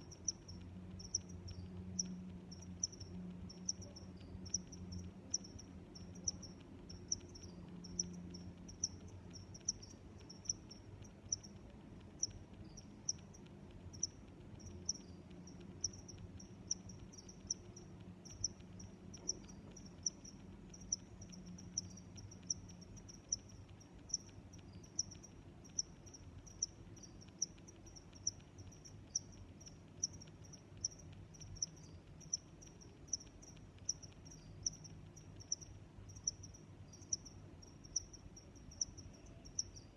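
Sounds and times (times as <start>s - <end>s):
crickets chirping: 0.0s - 39.9s
faint low hum: 0.0s - 39.9s.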